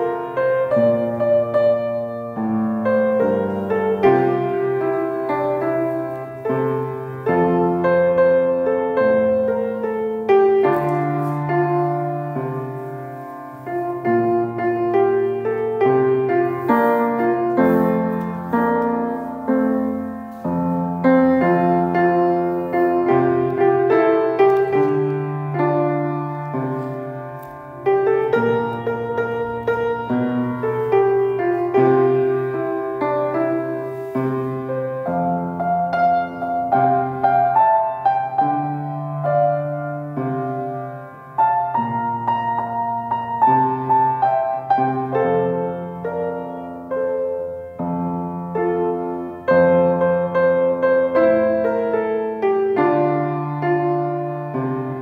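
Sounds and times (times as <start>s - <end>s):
solo piano music: 0.0s - 55.0s.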